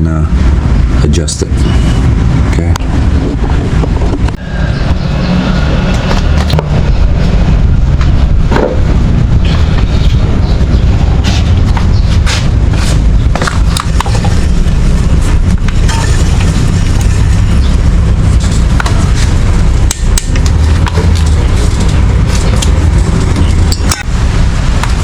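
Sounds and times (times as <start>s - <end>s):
wind buffeting microphone: 0.3s - 25.0s.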